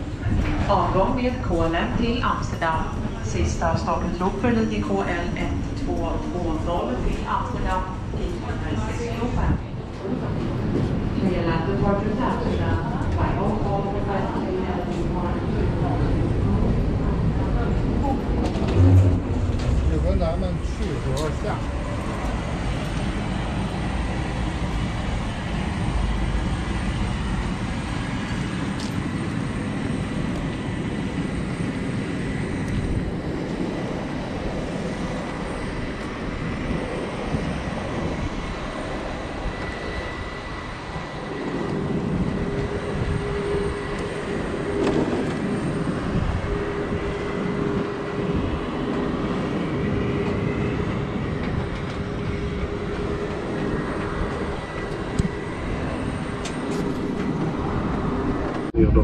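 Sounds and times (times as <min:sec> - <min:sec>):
jet aircraft running: 0:00.0 - 0:59.0.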